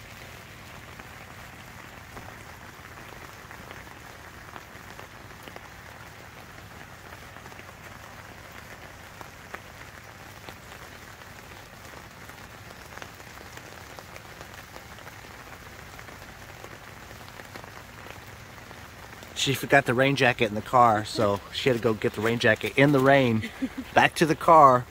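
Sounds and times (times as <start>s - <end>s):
rain on a tarp: 0.0s - 24.9s.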